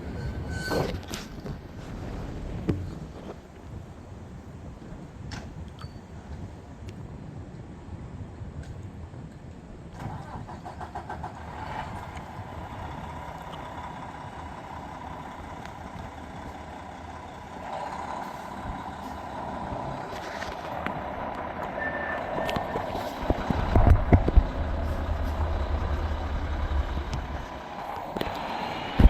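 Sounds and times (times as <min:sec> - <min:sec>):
emergency vehicle engines running: 0:03.4 - 0:29.0.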